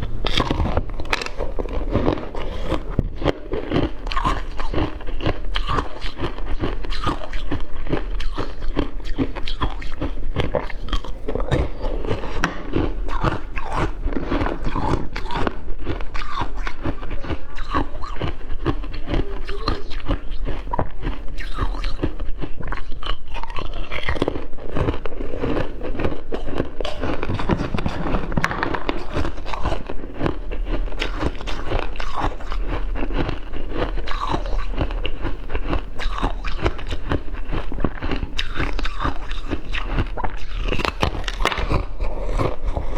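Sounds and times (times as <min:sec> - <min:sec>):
ice crunching while chewed: 0:00.0 - 0:42.9.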